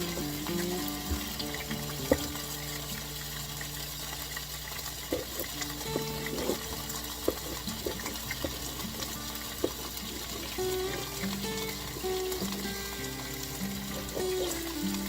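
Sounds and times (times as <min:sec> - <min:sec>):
even hiss: 0:00.0 - 0:15.0
soft background music: 0:00.0 - 0:15.0.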